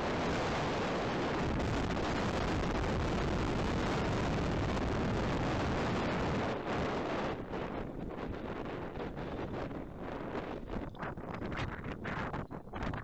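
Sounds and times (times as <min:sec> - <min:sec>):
wind and rain on microphone: 0:00.0 - 0:13.0.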